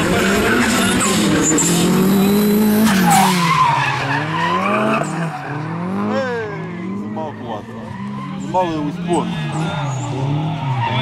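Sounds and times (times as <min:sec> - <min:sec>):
car engines at high revs: 0:00.0 - 0:11.0
tyre squeal and skidding: 0:00.0 - 0:11.0.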